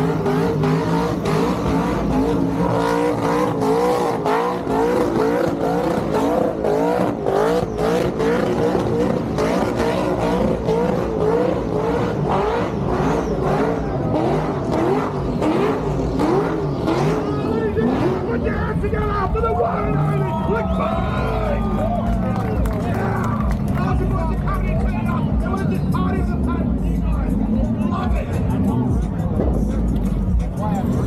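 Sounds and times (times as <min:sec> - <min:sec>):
car engine revving with crackles: 0:00.0 - 0:31.0.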